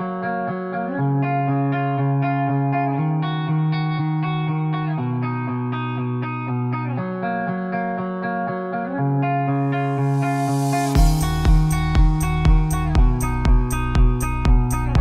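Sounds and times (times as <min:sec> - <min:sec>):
guitar chords plucked: 0:00.0 - 0:15.0.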